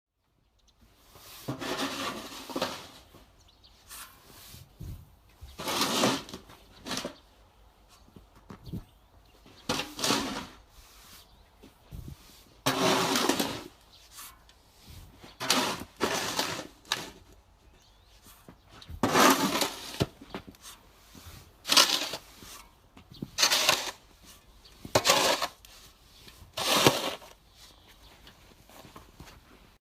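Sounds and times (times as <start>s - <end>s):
shovel scraping snow: 1.0s - 7.2s, 9.6s - 29.4s.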